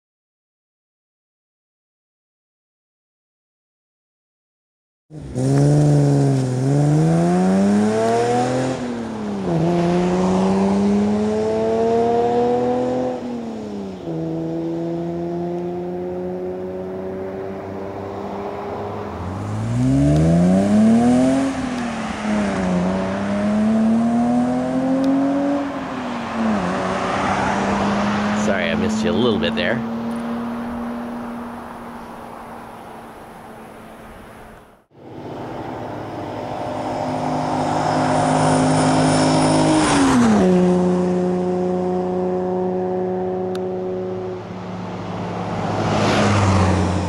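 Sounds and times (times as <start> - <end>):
car engine accelerating: 5.1 - 47.0.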